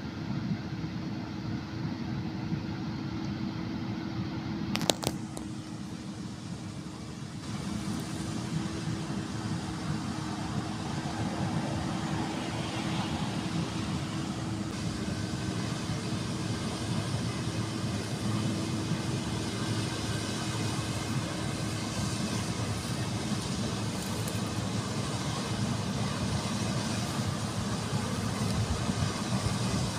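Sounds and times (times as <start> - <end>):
combine harvester engine hum: 0.0 - 29.9.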